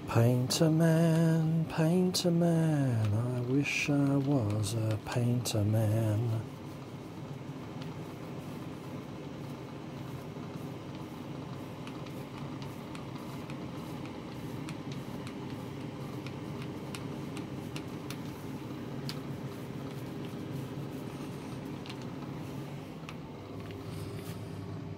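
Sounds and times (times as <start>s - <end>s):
foam paint roller rolling: 2.8s - 22.9s.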